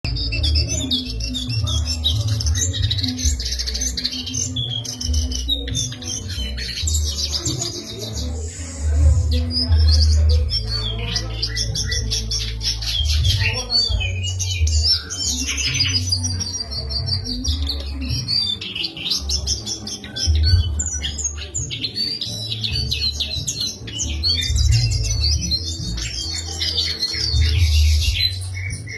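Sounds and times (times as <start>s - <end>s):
songbird chirping and trilling: 0.0s - 28.9s.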